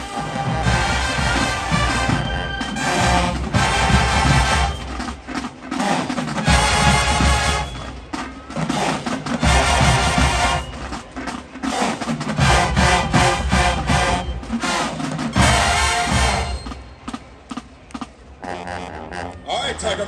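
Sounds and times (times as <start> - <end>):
marching band brass and drums: 0.0 - 20.0.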